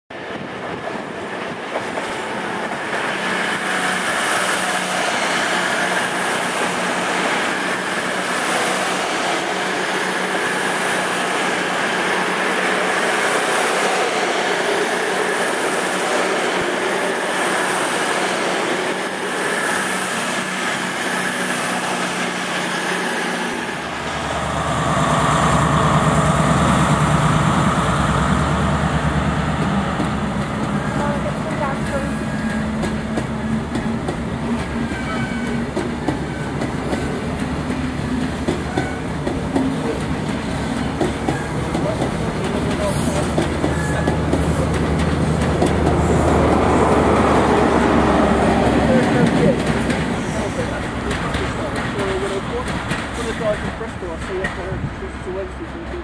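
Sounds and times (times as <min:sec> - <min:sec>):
diesel train engine drone: 0:00.1 - 0:56.0
train wheel noise: 0:00.1 - 0:56.0.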